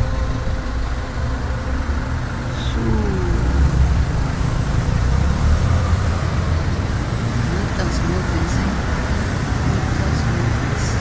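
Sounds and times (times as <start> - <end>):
passing vehicle engine: 0.0 - 11.0
street traffic rumbling: 0.0 - 11.0.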